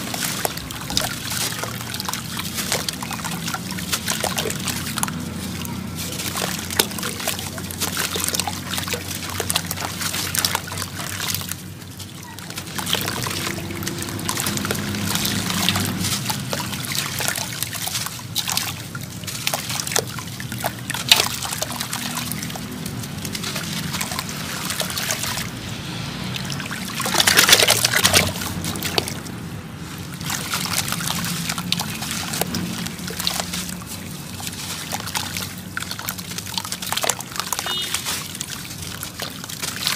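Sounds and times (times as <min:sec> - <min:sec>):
gritty crackling of crumbling chunks: 0:00.0 - 0:25.7, 0:26.4 - 0:39.9
sand splashing into water: 0:00.0 - 0:39.9.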